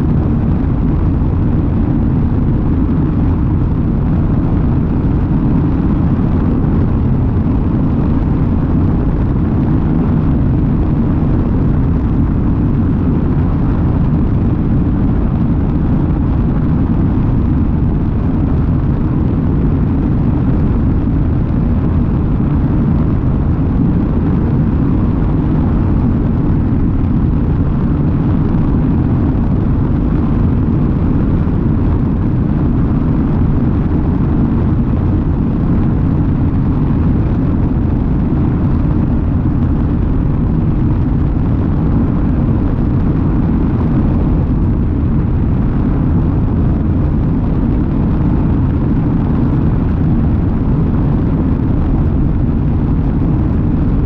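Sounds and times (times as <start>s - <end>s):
propeller engine drone: 0.0s - 54.0s
wind buffeting microphone: 0.0s - 54.0s.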